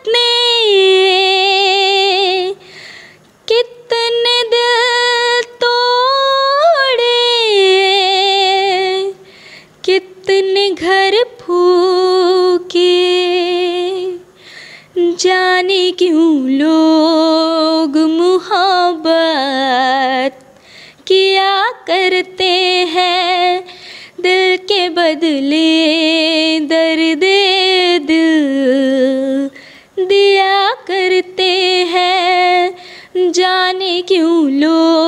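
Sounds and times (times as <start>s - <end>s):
woman singing unaccompanied: 0.0s - 2.7s, 3.4s - 35.0s.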